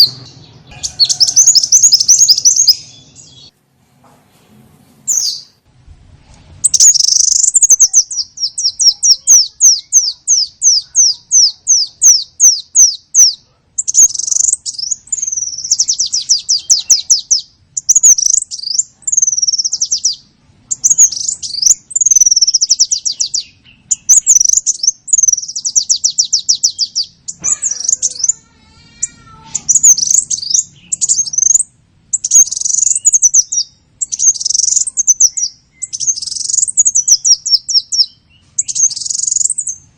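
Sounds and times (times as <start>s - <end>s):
small songbird chirps and trills: 0.0s - 3.5s, 5.1s - 5.6s, 6.5s - 39.9s.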